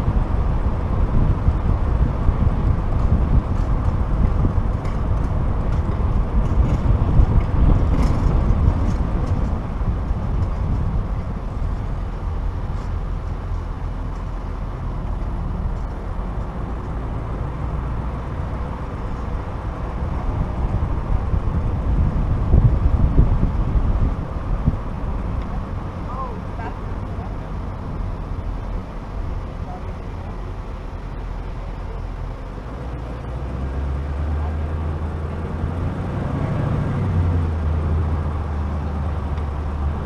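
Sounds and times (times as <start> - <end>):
car engine rumbling: 0.0 - 40.0.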